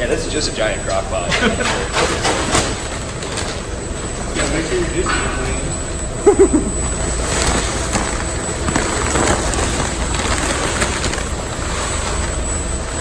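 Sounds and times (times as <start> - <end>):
brewing equipment rumble and hiss: 0.0 - 13.0.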